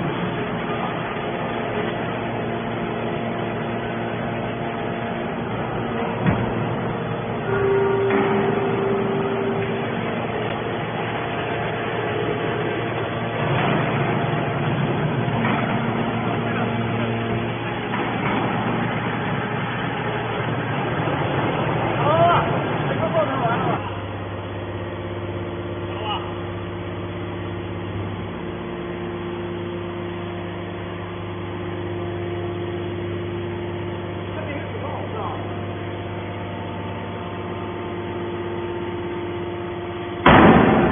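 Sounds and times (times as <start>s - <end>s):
hydraulic motor and pump running: 0.0s - 40.9s.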